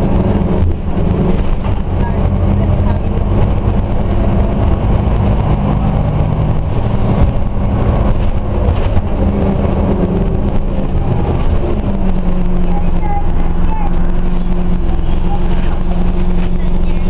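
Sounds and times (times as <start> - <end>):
bus diesel engine: 0.0 - 17.0
road noise: 0.0 - 17.0.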